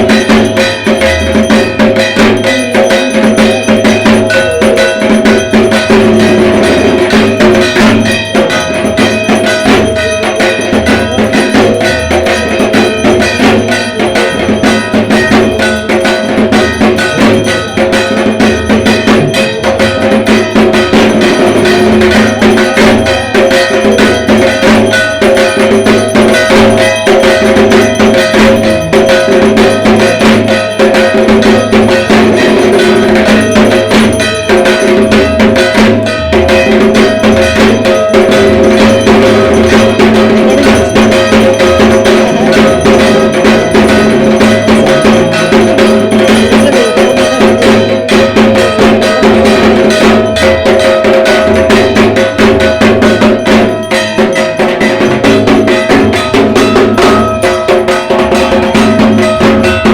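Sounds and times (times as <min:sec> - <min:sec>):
barrel drum beaten with sticks: 0:00.0 - 0:59.9
ringing metal percussion: 0:00.0 - 0:59.9.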